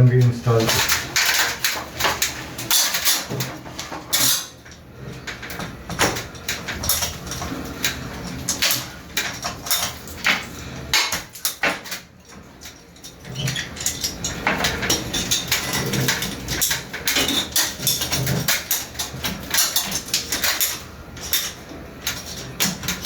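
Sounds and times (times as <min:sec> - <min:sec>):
plastic pipes clicking and clattering: 0:00.0 - 0:23.0.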